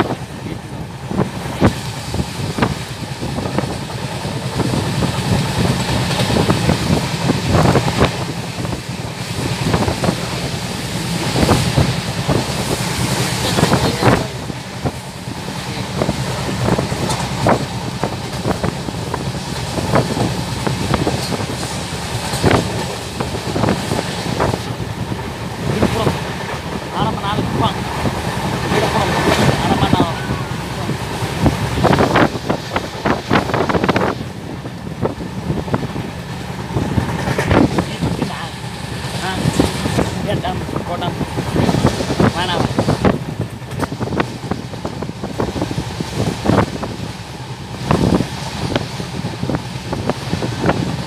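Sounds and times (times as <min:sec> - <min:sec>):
train wheels rumbling on rails: 0:00.0 - 0:51.0
wind rushing: 0:00.0 - 0:51.0
wheels clacking over rail joints: 0:01.0 - 0:51.0.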